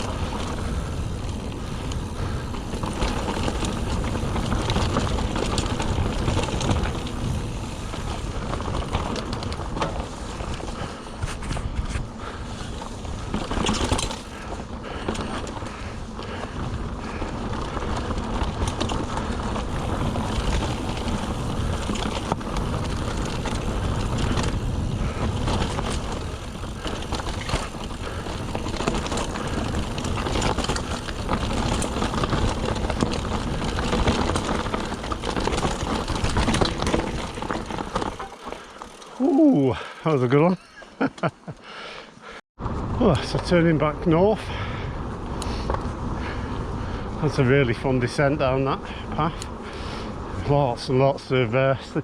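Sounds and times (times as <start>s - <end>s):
mountain bike rattling over rocks: 0.0s - 41.5s, 42.2s - 52.0s.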